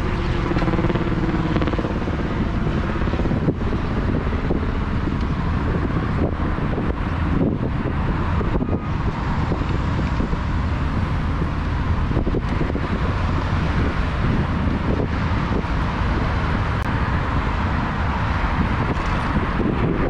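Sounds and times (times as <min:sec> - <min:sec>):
road traffic noise: 0:00.0 - 0:20.0
wind rumbling on microphone: 0:00.0 - 0:20.0.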